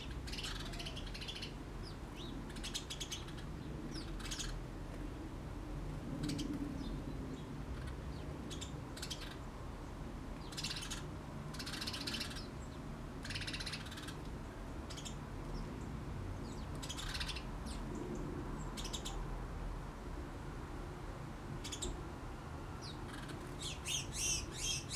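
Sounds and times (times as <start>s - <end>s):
small birds chirping: 0.0s - 4.6s, 6.2s - 19.3s, 21.6s - 22.0s, 22.8s - 24.9s.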